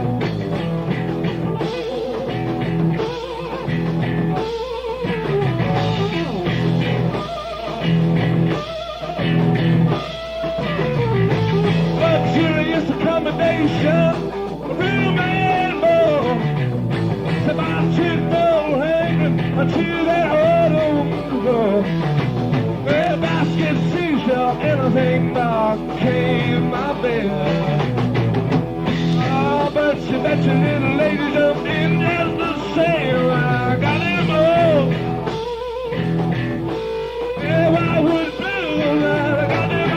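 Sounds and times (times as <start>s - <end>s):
electric guitar lead: 0.0s - 39.9s
rock band playing blues: 0.0s - 39.9s.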